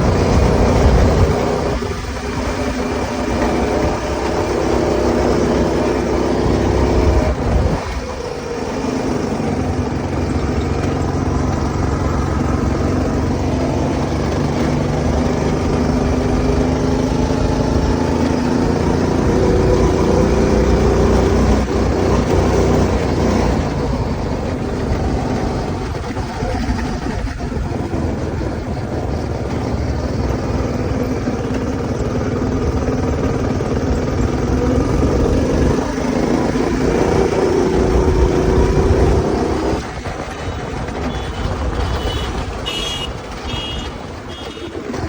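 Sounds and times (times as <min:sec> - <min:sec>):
go-kart engine revving: 0:00.0 - 0:45.0.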